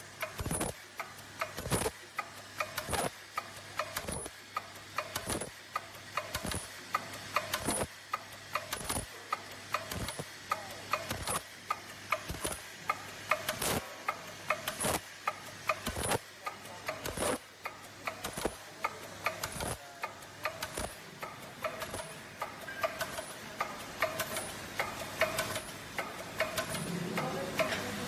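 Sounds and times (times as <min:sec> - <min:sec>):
machine clacking: 0:00.0 - 0:28.0
machine clicks and ticks: 0:00.0 - 0:28.0.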